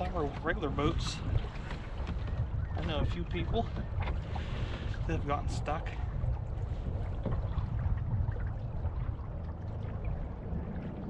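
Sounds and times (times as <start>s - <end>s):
water sloshing against kayak hull: 0.0s - 11.0s
wind buffeting microphone: 0.0s - 11.0s.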